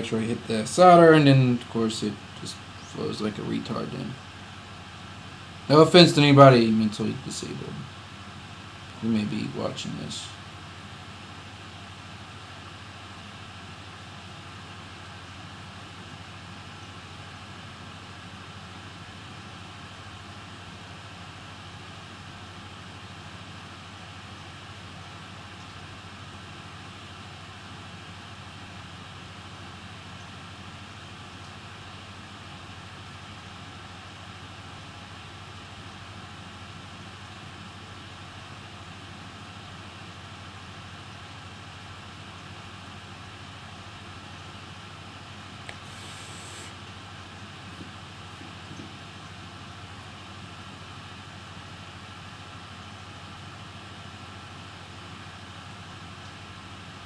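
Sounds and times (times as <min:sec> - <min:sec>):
constant hiss: 0:00.0 - 0:57.0.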